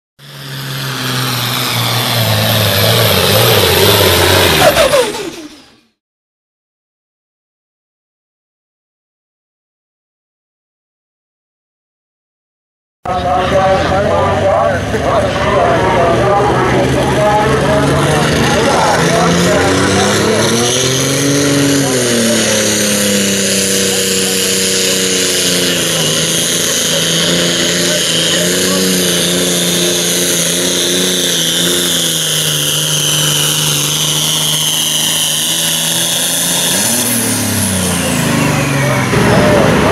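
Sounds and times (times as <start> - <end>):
tractor diesel engine under load: 0.2 - 6.0, 13.1 - 39.9.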